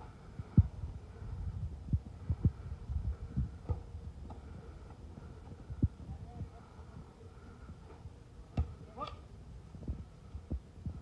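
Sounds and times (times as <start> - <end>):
dull low thumps: 0.3 - 8.9, 9.5 - 11.0.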